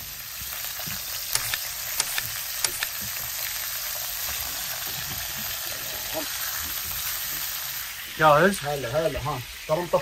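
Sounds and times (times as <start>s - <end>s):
patties sizzling in a pan: 0.0s - 10.0s.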